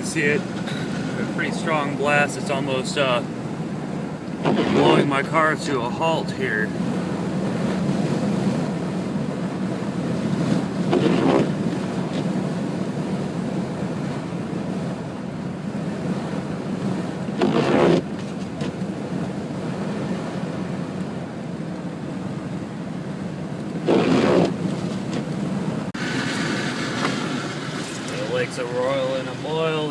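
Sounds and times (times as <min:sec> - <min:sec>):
car engine and road drone: 0:00.0 - 0:29.9
wind buffeting car: 0:00.0 - 0:29.9.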